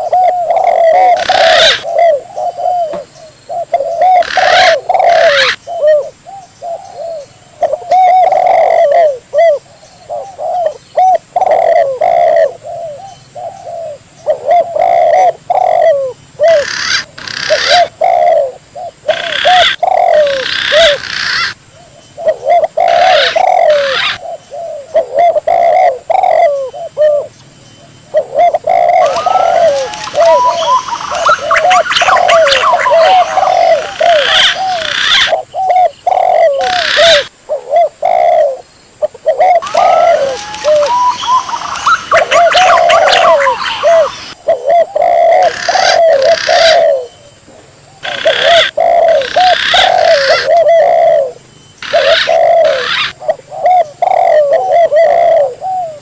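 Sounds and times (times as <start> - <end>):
higher bright pigeon calls: 0.0 - 27.3, 28.1 - 47.3, 48.0 - 56.0
dove cooing: 0.0 - 47.3, 47.9 - 56.0.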